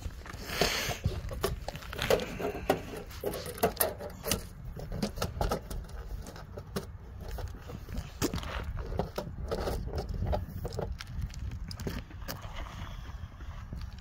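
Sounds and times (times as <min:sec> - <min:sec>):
boots shifting on shingles: 0:00.0 - 0:14.0
metal knocks taps and scrapes: 0:00.6 - 0:12.8.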